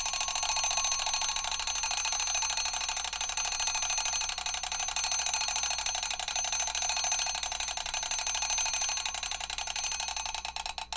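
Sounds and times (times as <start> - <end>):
alarm clock bell ringing: 0.0 - 10.6.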